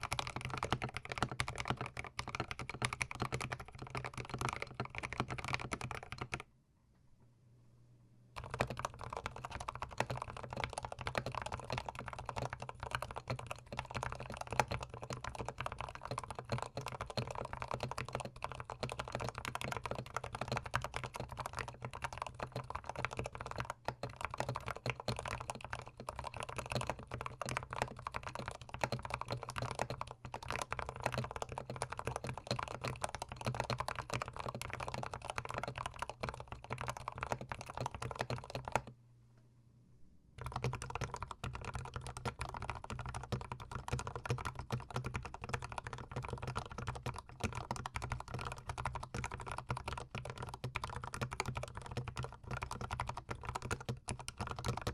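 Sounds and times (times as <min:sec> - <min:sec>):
mechanical keyboard typing: 0:00.0 - 0:06.4, 0:08.4 - 0:38.9, 0:40.4 - 0:54.9.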